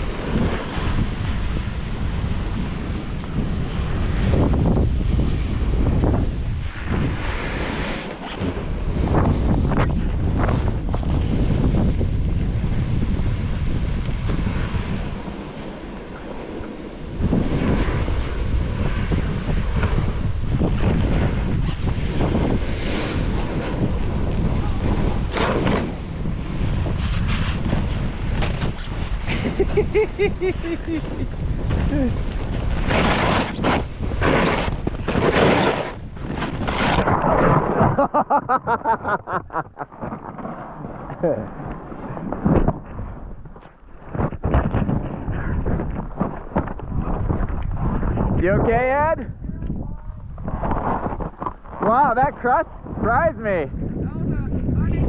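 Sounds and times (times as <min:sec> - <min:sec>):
snowboard sliding on snow: 0:00.0 - 0:48.7
wind buffeting microphone: 0:00.0 - 0:55.0.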